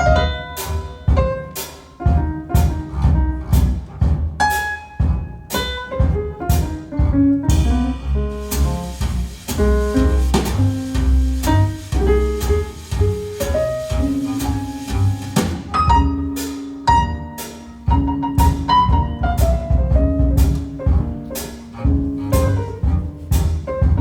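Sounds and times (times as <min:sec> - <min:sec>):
jazz with bass piano and drums: 0:00.0 - 0:24.0.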